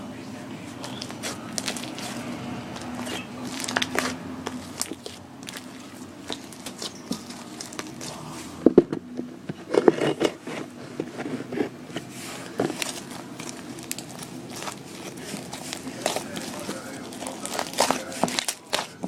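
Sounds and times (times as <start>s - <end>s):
slime squishing and crackling: 0.7s - 8.6s, 11.4s - 19.0s.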